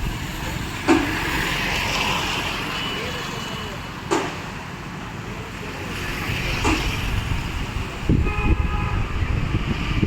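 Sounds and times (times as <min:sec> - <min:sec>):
tractor engine rumbling: 0:00.0 - 0:10.0.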